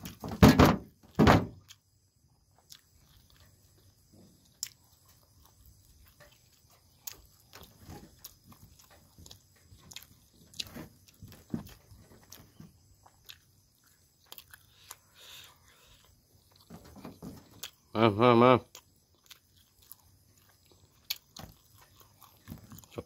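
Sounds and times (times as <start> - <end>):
man chewing with wet smacks: 1.6 - 17.9, 18.6 - 23.0
biting sound: 2.6 - 16.8, 18.6 - 23.0.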